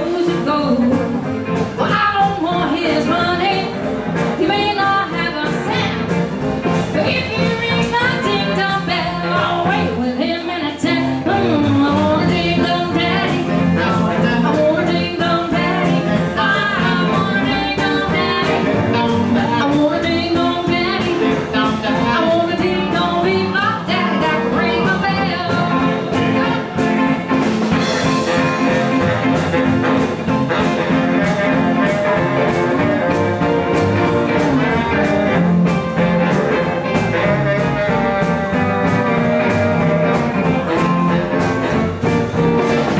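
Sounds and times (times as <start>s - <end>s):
live blues band playing: 0.0s - 42.9s.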